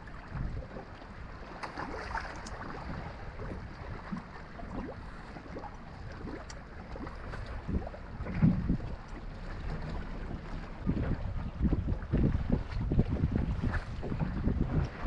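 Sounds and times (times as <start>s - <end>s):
small waves lapping against boat hull: 0.0s - 15.0s
wind rumble on microphone: 0.0s - 15.0s.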